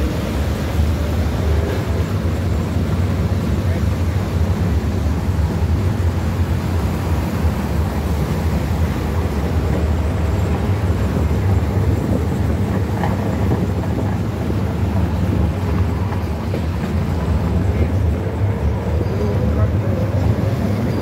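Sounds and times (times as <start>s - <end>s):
tram rumbling along track: 0.0s - 21.0s.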